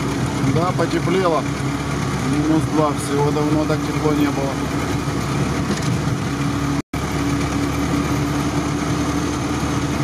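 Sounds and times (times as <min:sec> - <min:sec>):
engine and road noise in cab: 0:00.0 - 0:10.0.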